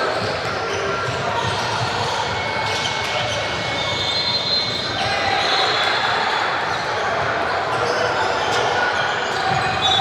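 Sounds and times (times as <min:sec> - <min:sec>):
voices of players and spectators: 0:00.0 - 0:10.0.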